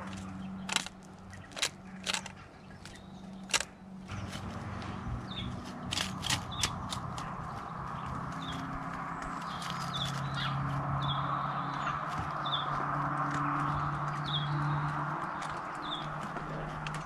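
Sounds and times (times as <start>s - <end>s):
woodpecker clicks and taps: 0.0s - 17.0s.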